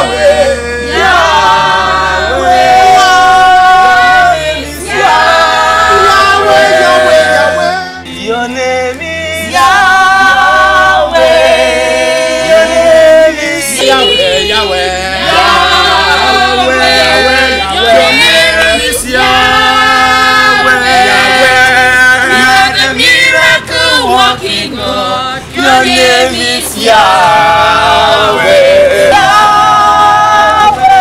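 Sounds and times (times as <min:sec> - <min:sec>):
group singing together: 0:00.0 - 0:31.0.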